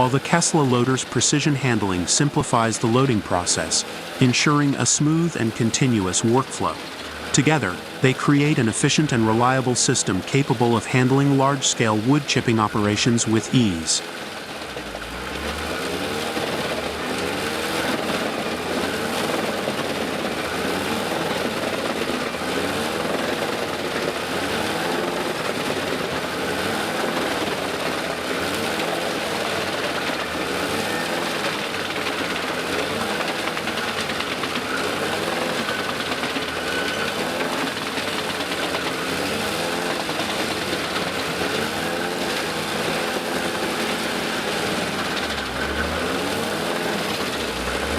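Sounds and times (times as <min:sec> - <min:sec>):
wood chipper chipping wood: 0:00.0 - 0:47.9.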